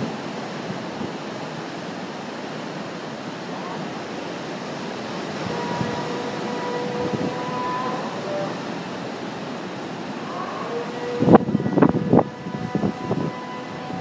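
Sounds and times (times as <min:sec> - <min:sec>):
ocean surf on rocks: 0:00.0 - 0:14.0.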